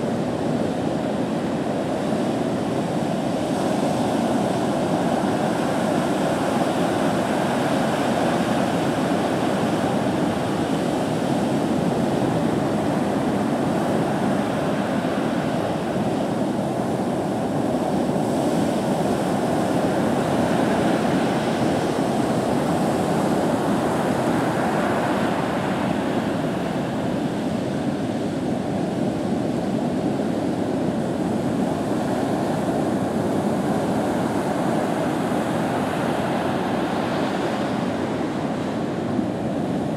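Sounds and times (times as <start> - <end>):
heavy ocean surf breaking: 0.0 - 39.9.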